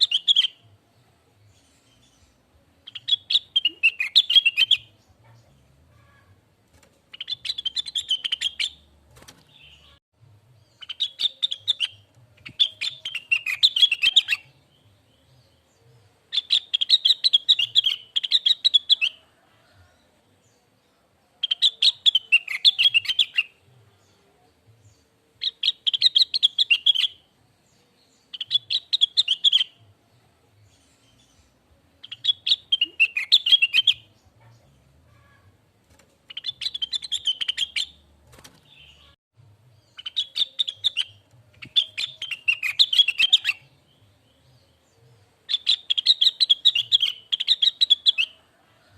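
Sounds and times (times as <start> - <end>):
bird song with chattering notes: 0.0 - 19.7, 20.3 - 48.9.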